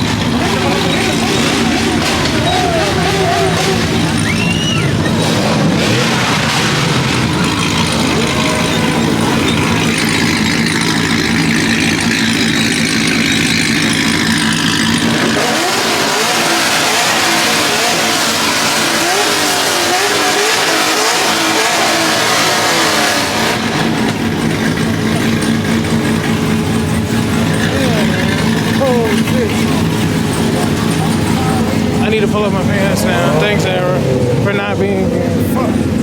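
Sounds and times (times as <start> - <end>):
car engine revving: 0.0 - 36.0
car engines idling: 0.0 - 36.0.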